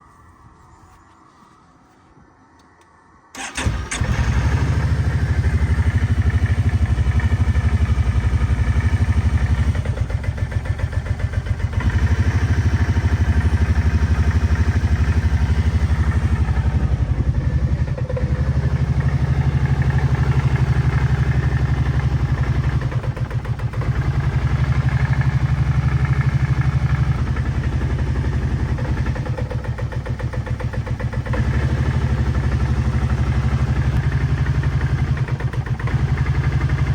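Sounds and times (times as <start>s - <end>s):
engine starting and rough idling: 3.3s - 36.9s.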